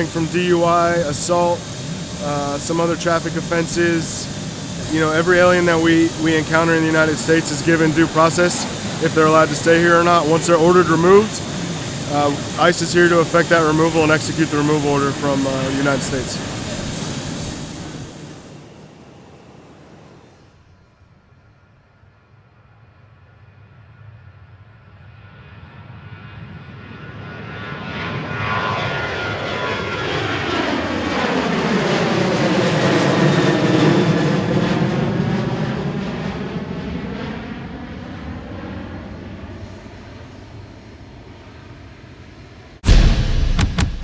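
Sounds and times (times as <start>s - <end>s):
airplane passing by: 0.0s - 43.0s.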